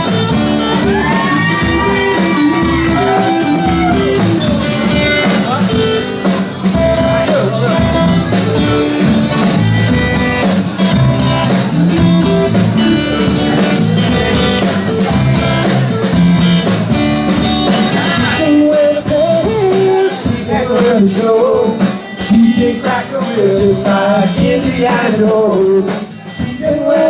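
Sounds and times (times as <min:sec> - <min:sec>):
live rock band playing: 0:00.0 - 0:27.0.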